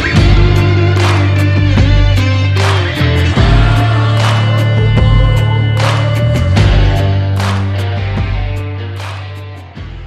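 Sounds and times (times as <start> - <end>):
guitar music with bass and beat: 0.0 - 10.0.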